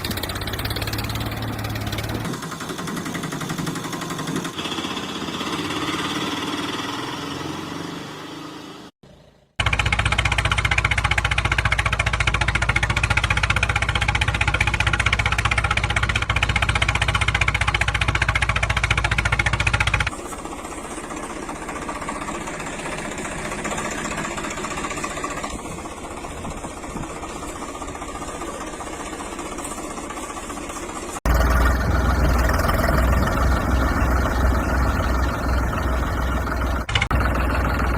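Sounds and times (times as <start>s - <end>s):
engine knocking beat: 0.0s - 7.4s, 9.6s - 37.9s
rough engine running: 0.0s - 37.9s.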